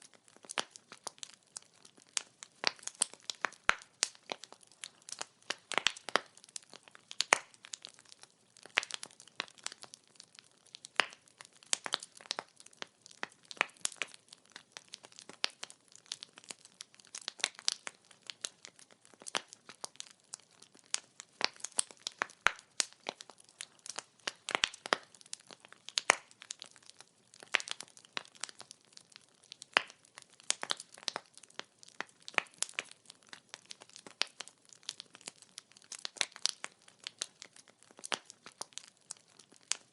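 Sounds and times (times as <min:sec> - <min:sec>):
wood fire popping and snapping: 0:00.0 - 0:39.9.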